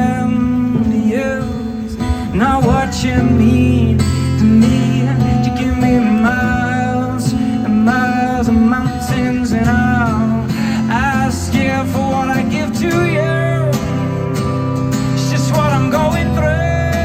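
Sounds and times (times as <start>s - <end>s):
person singing wordless melody: 0.0s - 14.2s
strummed acoustic guitar: 0.0s - 17.0s.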